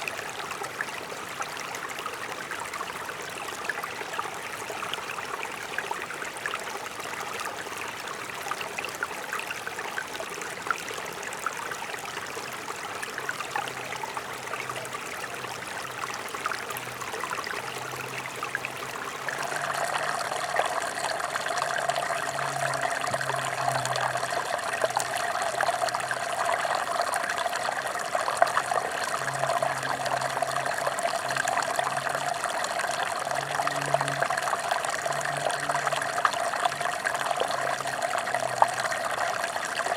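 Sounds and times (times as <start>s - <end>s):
mountain stream running: 0.0s - 39.9s.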